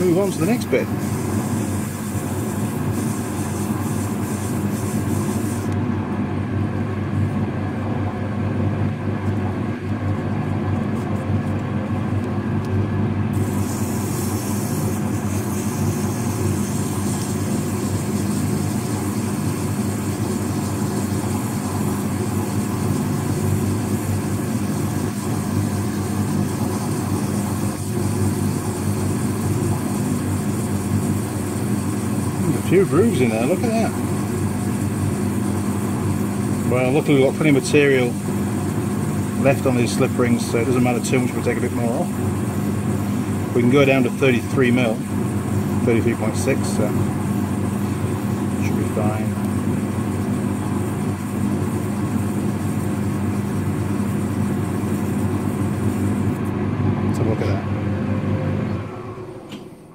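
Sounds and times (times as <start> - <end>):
abrasive cloth hissing on slip rings: 0.0 - 5.8, 13.4 - 56.4
metal lathe running: 0.0 - 5.8, 13.4 - 56.4.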